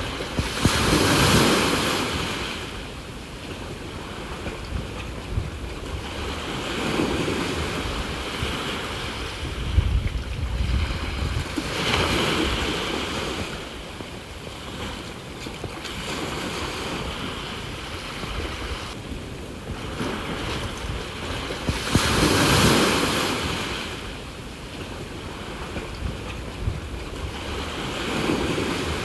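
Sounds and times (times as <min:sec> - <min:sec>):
sea waves breaking: 0:00.0 - 0:29.0
wind buffeting microphone: 0:00.0 - 0:29.0.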